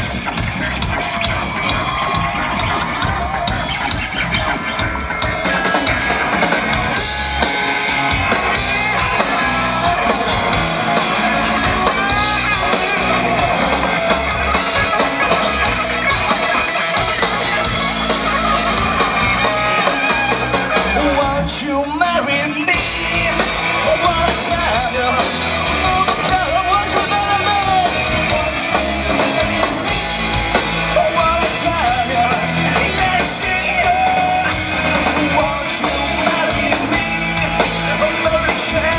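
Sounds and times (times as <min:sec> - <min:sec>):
rock band playing live: 0:00.0 - 0:38.9
person singing: 0:01.6 - 0:38.9.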